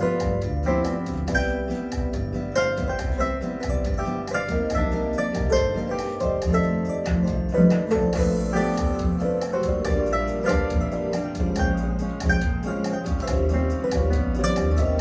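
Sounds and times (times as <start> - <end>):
keyboard melody and chords: 0.0 - 15.0
steady beat: 0.0 - 15.0
pulsing bass line: 0.4 - 15.0.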